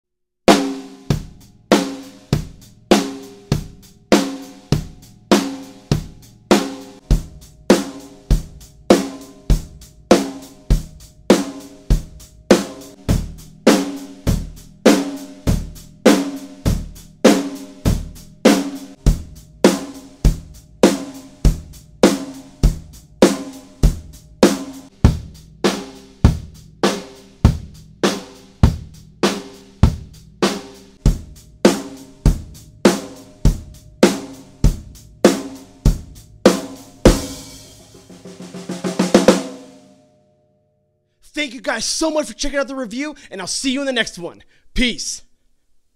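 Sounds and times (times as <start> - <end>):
drum kit playing a groove: 0.5 - 39.9.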